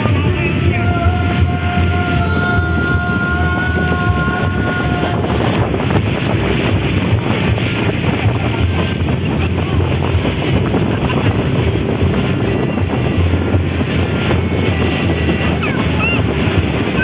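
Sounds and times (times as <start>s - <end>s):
motorboat engine running: 0.0s - 17.0s
water rushing along hull: 0.0s - 17.0s
wind buffeting microphone: 0.0s - 17.0s.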